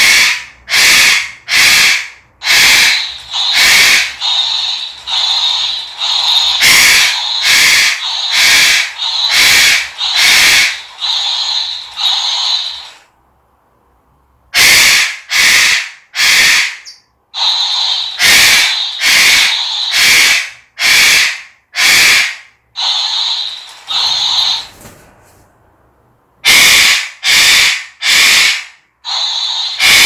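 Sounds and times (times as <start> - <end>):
parrot screeching: 0.0 - 13.0, 14.6 - 24.8, 26.4 - 30.0.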